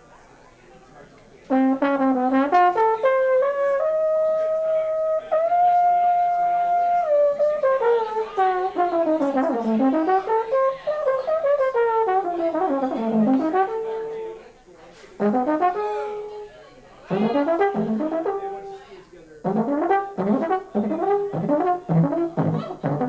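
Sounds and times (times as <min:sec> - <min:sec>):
trombone melody with slides: 0:01.5 - 0:14.5, 0:15.2 - 0:16.5, 0:17.1 - 0:23.0.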